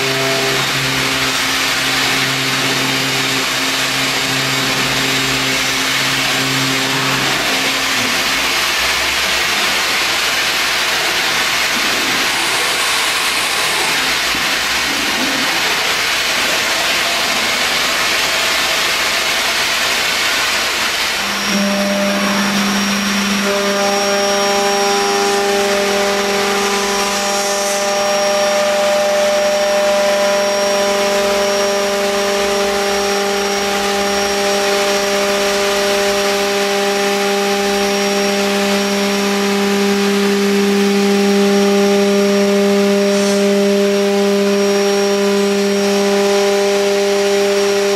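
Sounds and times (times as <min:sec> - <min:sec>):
air hiss and machine noise: 0:00.0 - 0:47.9
router spindle hum and whine: 0:00.0 - 0:47.9.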